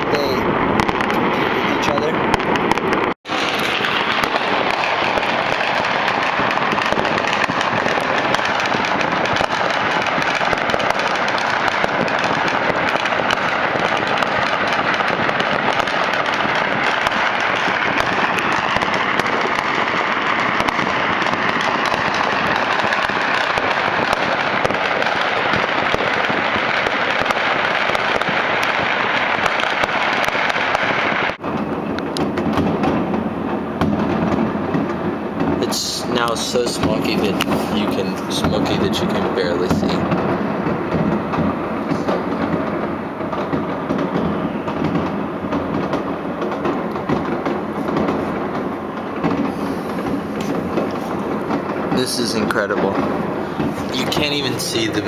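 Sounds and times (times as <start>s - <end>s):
fireworks and firecrackers crackling: 0.0s - 55.0s.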